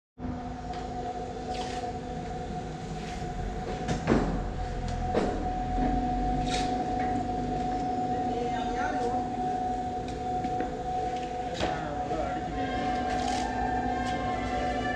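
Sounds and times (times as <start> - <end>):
workshop machinery hum: 0.2 - 14.9.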